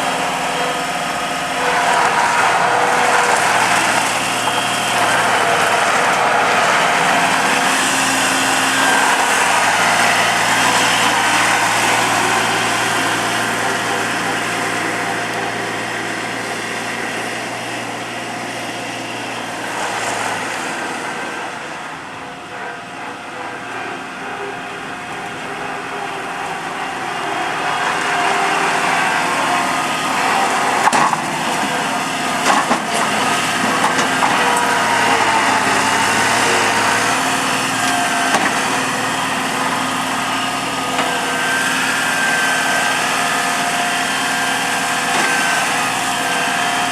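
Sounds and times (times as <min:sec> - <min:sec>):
loader engine running: 0:00.0 - 0:46.9.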